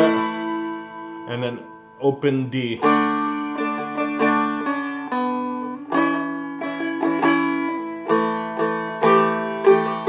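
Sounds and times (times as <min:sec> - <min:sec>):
acoustic strumming with drone strings: 0:00.0 - 0:10.0.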